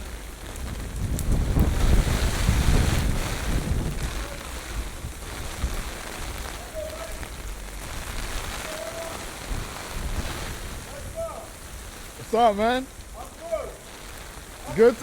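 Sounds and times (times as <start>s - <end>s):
heavy rain falling: 0.0s - 15.0s
wind gusts buffeting microphone: 0.0s - 15.0s.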